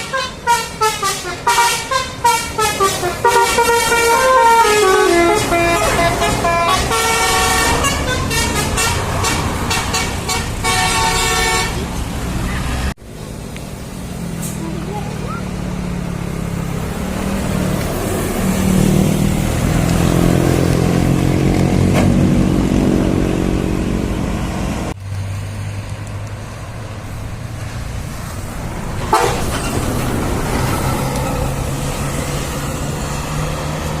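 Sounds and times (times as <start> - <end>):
bus idling: 0.0 - 21.5, 26.0 - 34.0
bus engines running: 0.0 - 34.0.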